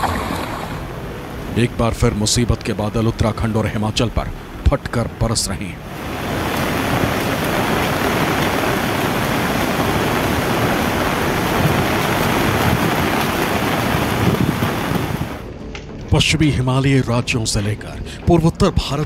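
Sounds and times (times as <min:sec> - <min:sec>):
flooded river rushing: 0:00.0 - 0:15.6.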